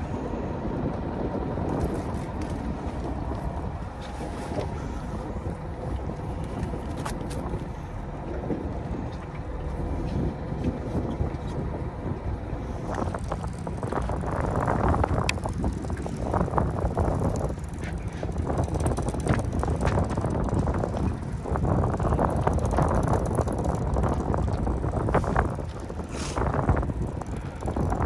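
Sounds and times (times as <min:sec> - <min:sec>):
steady low rumble: 0:00.0 - 0:28.0
wind buffeting microphone: 0:00.0 - 0:28.0.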